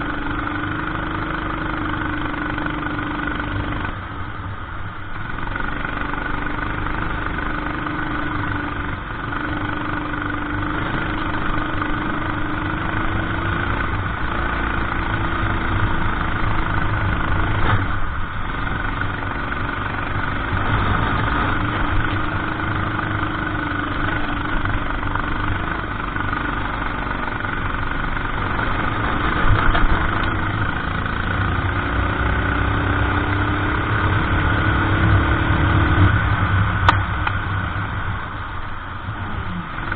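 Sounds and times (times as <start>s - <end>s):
kart engine revving: 0.0s - 4.0s, 5.2s - 38.4s.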